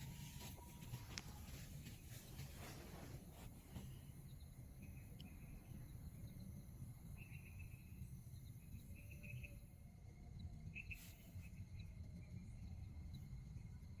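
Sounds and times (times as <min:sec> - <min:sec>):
insects chirping in trills: 0:00.0 - 0:14.0.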